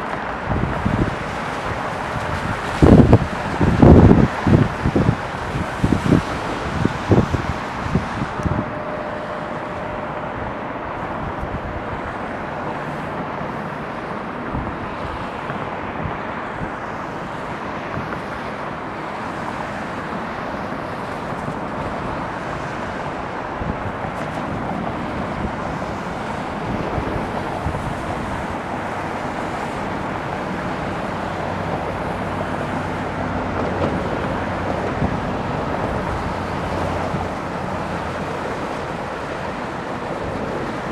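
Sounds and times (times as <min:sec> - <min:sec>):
jet engines rushing hiss: 0:00.0 - 0:40.9
wind buffeting microphone: 0:00.0 - 0:40.9.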